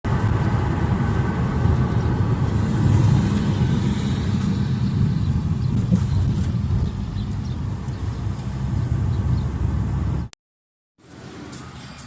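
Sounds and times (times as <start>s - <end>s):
jet engines low rumble: 0.1s - 10.3s.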